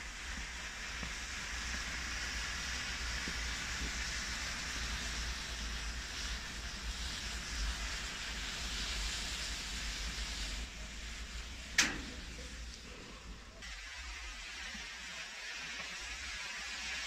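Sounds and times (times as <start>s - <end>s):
fire hissing rush: 0.0s - 17.0s.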